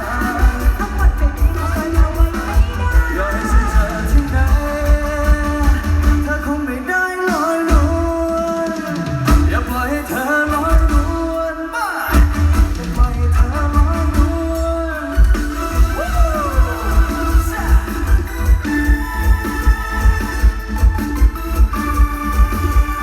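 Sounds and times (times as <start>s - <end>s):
pounding bass drum beat: 0.0s - 23.0s.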